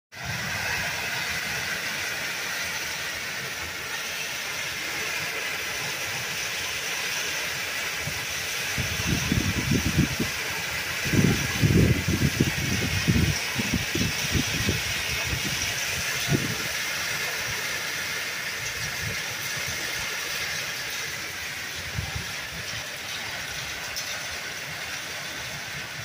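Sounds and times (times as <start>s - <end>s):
torrential rain hissing: 0.2s - 26.0s.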